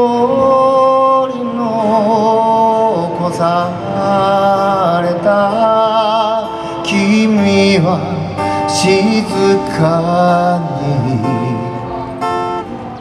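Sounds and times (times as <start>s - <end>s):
man singing a slow ballad: 0.0s - 12.0s
acoustic guitar: 0.0s - 13.0s.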